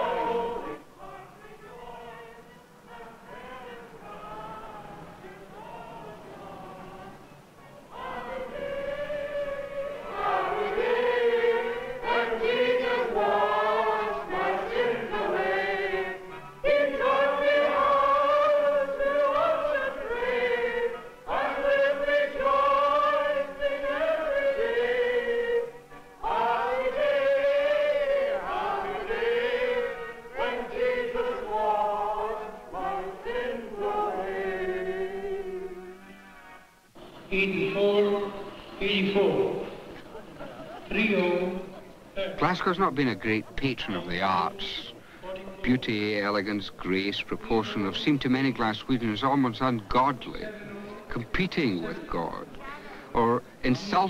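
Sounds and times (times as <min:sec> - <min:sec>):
congregation singing a hymn: 0:00.0 - 0:52.4, 0:53.1 - 0:54.0.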